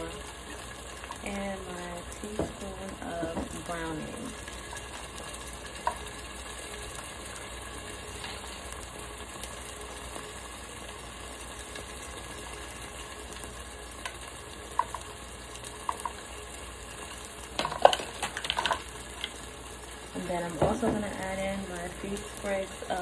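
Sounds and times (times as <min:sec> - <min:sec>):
vegetables sizzling in a pot: 0:00.0 - 0:23.0.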